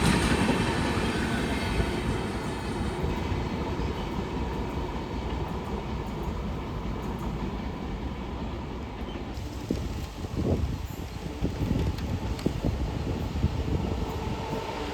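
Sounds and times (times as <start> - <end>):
train rumbling past on rails: 0.0 - 14.9.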